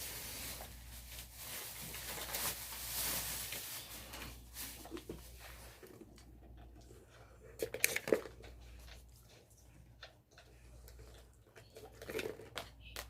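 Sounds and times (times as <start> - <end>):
rustling and clicking handling noises: 0.2 - 13.0.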